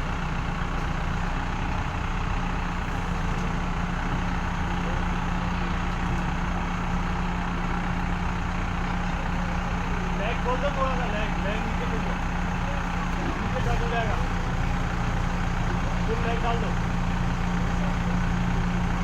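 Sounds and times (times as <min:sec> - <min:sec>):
diesel engine running steadily: 0:00.0 - 0:19.0.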